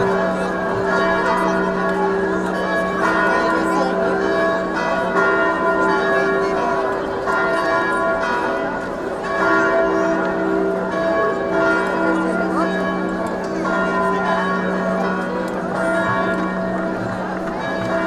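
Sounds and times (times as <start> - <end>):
church bells ringing: 0.0 - 18.0
crowd hubbub: 0.0 - 18.0.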